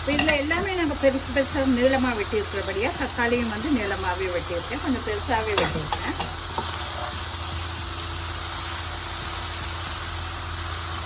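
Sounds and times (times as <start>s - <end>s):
stir-fry sizzling in a pan: 0.0s - 11.0s.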